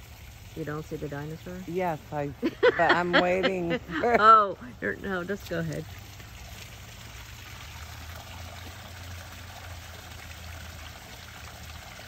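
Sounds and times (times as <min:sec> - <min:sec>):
water pouring into pond: 0:00.0 - 0:12.0.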